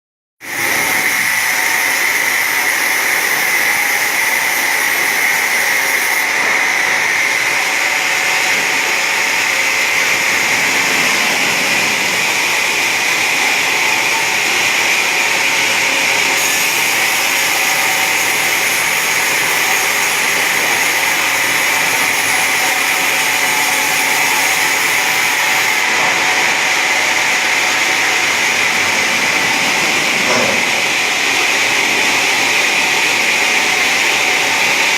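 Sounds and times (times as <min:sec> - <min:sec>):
wood-sawing machine running: 0:00.4 - 0:34.9.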